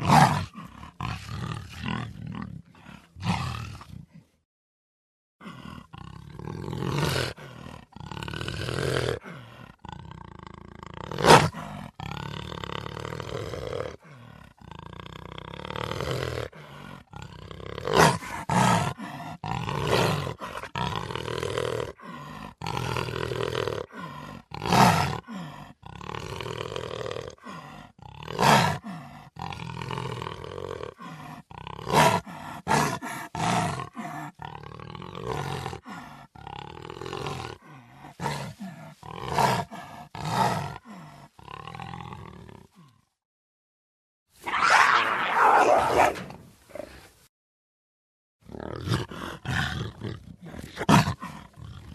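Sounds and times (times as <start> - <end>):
cheetah growling and snarling: 0.0 - 4.4, 5.4 - 43.2, 44.4 - 47.2, 48.4 - 51.9.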